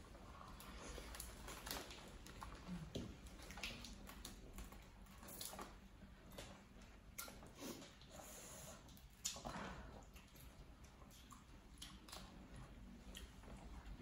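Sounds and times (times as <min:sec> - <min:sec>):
small clicks and crackles of eating: 0:00.0 - 0:14.0.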